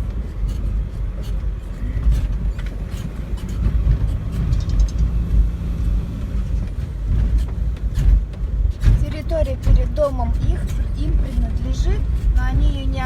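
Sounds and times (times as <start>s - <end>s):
car driving slowly: 0.0s - 13.0s
light knocks and rattles: 0.0s - 13.0s.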